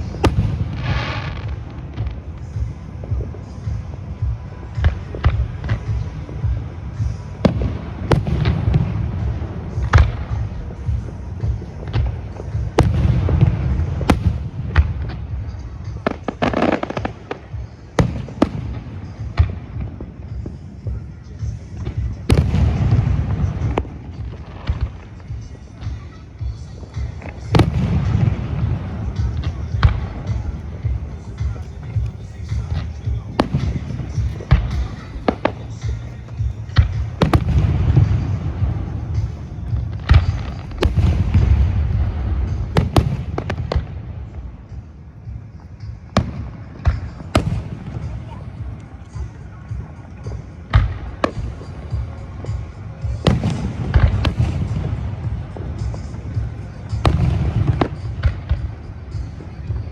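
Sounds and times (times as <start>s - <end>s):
fireworks bursting: 0.0s - 59.9s
fireworks crackling: 0.0s - 59.9s.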